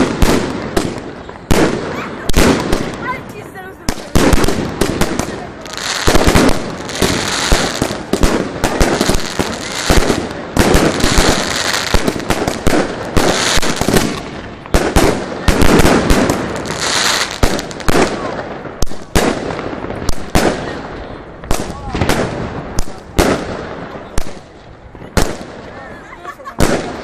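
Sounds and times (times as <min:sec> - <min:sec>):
firework bangs: 0:00.0 - 0:27.0
firework crackle: 0:00.0 - 0:27.0.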